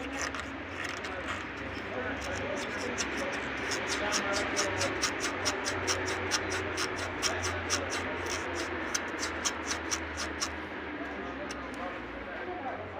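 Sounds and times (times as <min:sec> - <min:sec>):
car suspension squeaking: 0:00.0 - 0:10.7.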